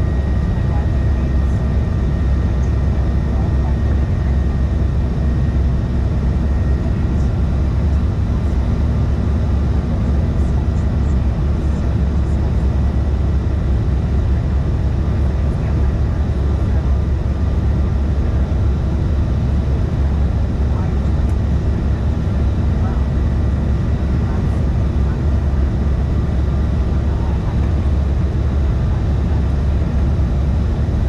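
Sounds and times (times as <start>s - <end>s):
faint steady whine tones: 0.0s - 31.0s
jet cabin rumble: 0.0s - 31.0s.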